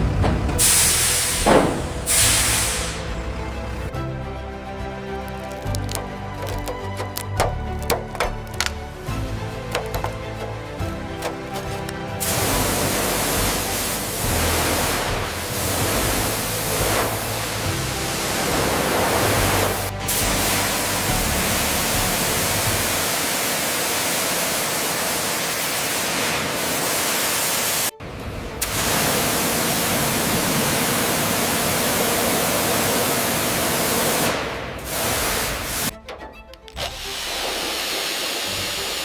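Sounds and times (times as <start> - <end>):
spraying water hiss: 0.6 - 3.9, 5.2 - 35.9.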